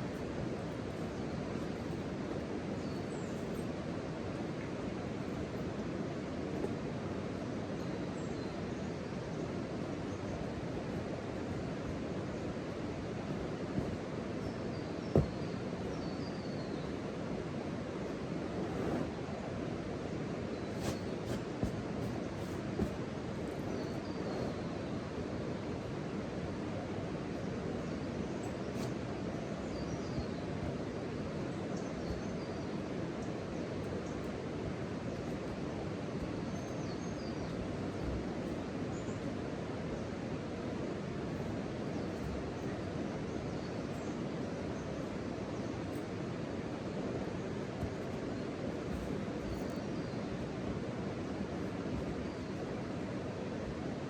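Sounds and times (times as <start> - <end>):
steady outdoor rushing noise: 9.3 - 16.2, 17.0 - 54.0.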